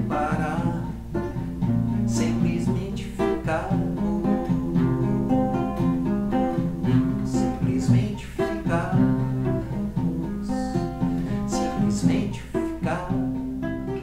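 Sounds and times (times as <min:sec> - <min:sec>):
drum machine percussion: 0:00.0 - 0:13.7
small guitar strummed: 0:00.0 - 0:14.0.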